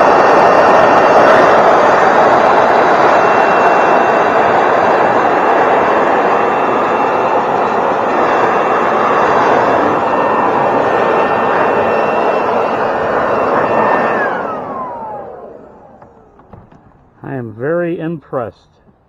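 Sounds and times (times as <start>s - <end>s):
power tool motor whining: 0.0s - 17.2s.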